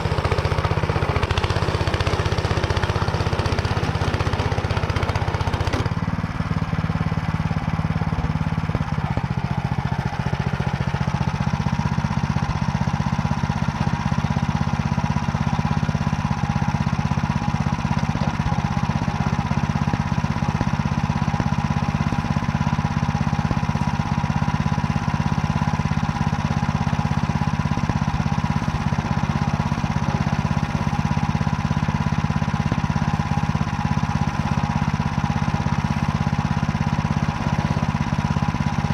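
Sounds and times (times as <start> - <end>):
engine running under load: 0.0 - 38.9.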